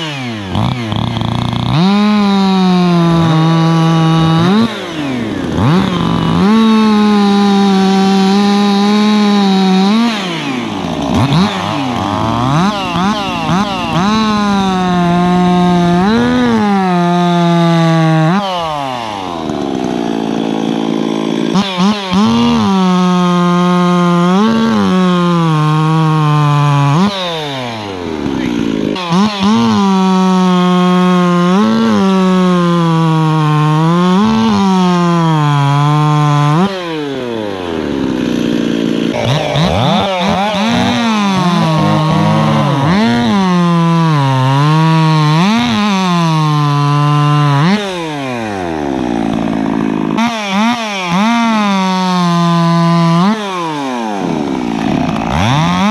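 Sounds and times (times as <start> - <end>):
chainsaw cutting wood at full throttle: 0.0 - 55.9.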